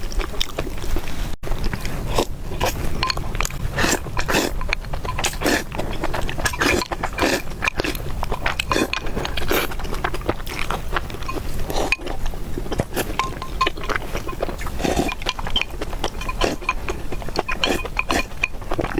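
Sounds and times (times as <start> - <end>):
wet chewing and biting: 0.0 - 18.9.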